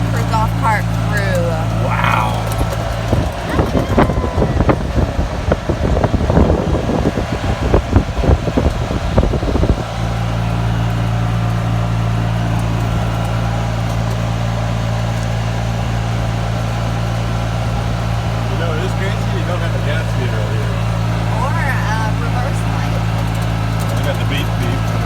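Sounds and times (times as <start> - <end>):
golf cart jolting and rattling: 0.0 - 25.0
low engine hum: 0.0 - 25.0.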